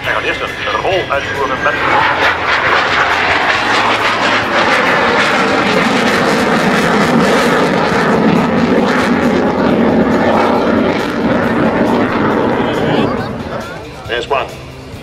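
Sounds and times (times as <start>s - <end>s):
aircraft engine roaring: 0.0s - 15.0s.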